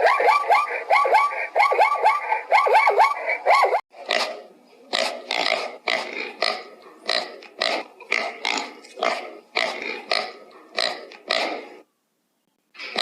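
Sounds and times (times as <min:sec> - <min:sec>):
animal grunt-like calls: 0:00.0 - 0:11.8, 0:12.8 - 0:13.0.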